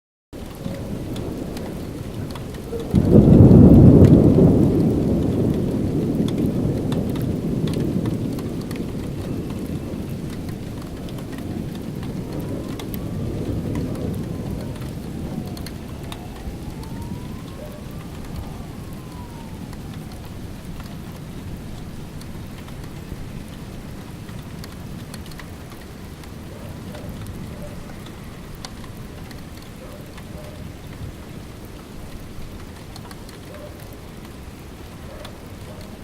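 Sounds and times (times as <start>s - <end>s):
steady rain falling: 0.4s - 36.0s
thunder clap rumbling: 0.4s - 36.0s.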